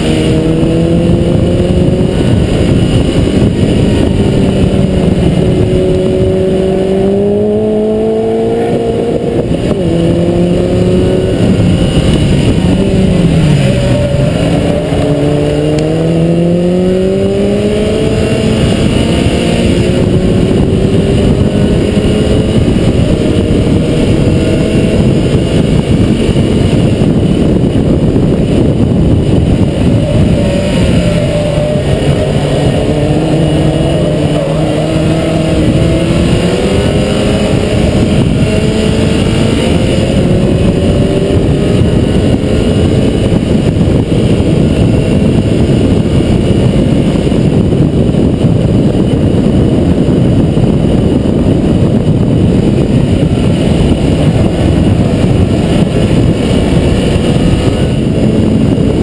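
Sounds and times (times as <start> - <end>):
car engine pulling hard: 0.0 - 59.0
wind rush and road noise: 0.0 - 59.0.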